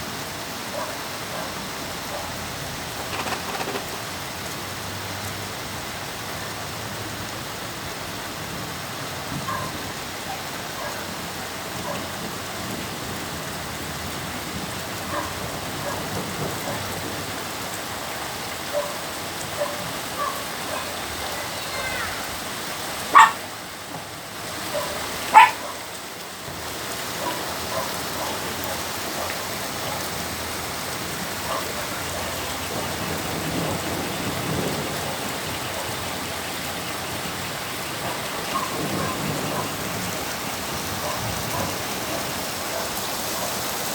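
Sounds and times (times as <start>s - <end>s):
steady rain pattering: 0.0s - 43.9s.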